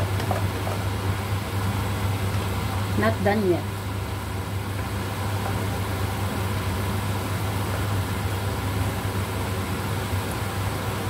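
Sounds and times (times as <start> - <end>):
food simmering in a pan: 0.0 - 11.0
low mechanical hum: 0.0 - 11.0.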